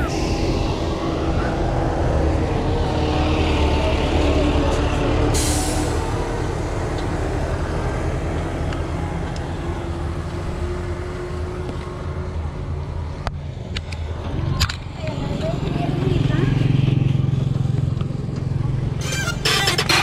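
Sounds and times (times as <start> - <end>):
steady rushing noise: 0.0 - 19.0
heavy truck engine running: 0.0 - 20.0.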